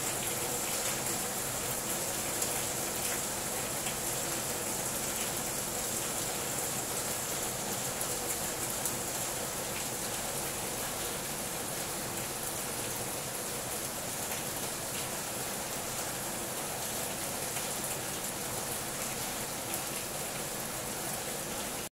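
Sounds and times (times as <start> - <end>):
heavy rain on leaves: 0.0 - 21.9.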